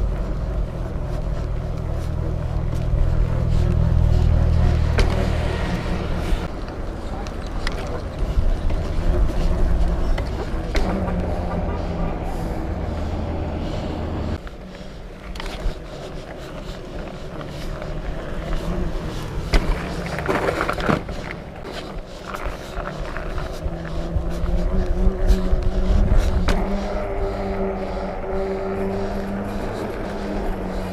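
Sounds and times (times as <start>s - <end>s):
bike rattles and knocks: 0.0s - 12.4s, 14.4s - 27.4s
tires rumbling over rough ground: 0.0s - 30.9s.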